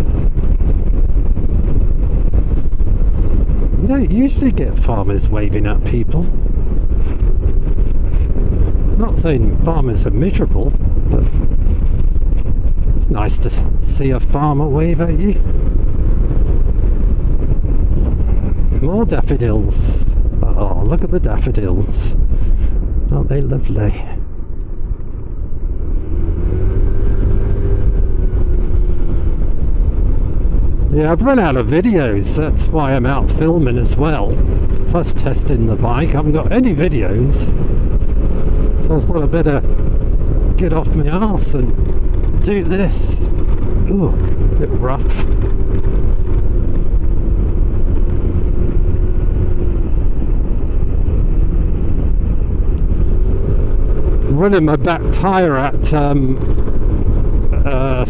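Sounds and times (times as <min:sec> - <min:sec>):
motorcycle engine rumble: 0:00.0 - 0:58.0
wind noise: 0:00.0 - 0:58.0.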